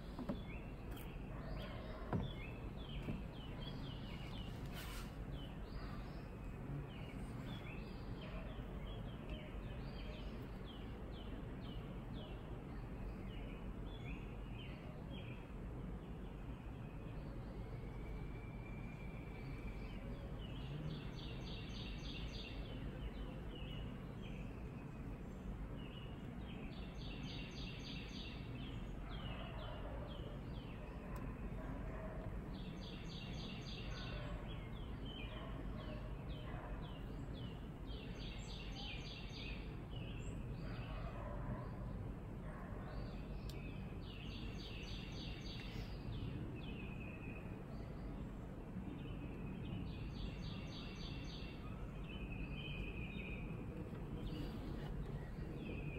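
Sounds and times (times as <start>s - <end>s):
birds chirping: 0.0s - 55.9s
outdoor background noise: 0.0s - 55.9s.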